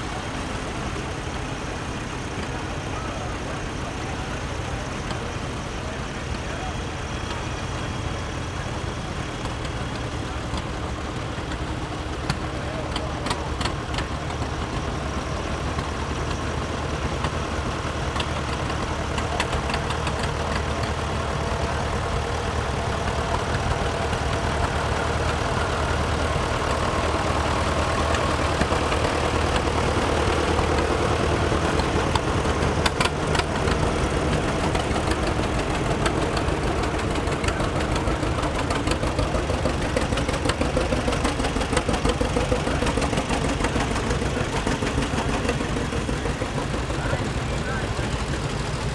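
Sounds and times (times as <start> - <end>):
tractor engines chugging: 0.0 - 48.9.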